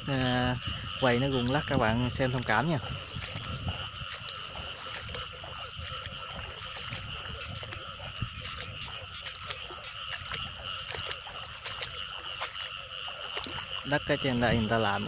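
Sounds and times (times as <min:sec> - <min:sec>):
frogs chorus: 0:00.0 - 0:15.0.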